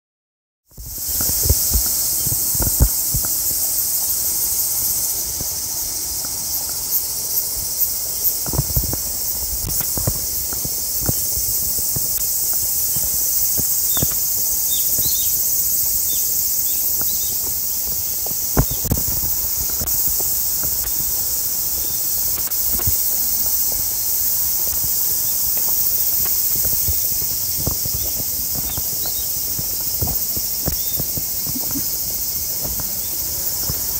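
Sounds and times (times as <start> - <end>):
cicadas droning: 0.7 - 33.9
footsteps on paved path: 0.7 - 33.9.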